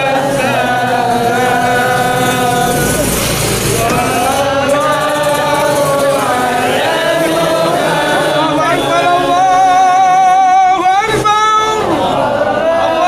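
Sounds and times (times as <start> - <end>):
person chanting: 0.0 - 13.0
voices chanting: 0.0 - 13.0.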